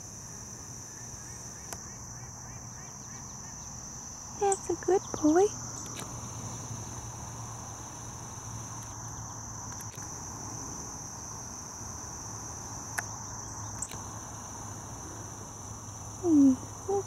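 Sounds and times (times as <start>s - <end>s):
high-pitched insect chorus trilling: 0.0s - 17.0s.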